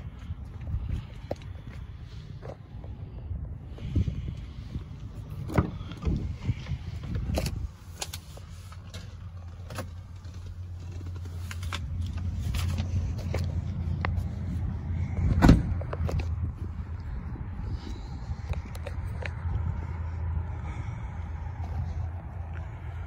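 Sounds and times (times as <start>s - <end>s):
diesel truck engine rumbling: 0.0s - 23.0s.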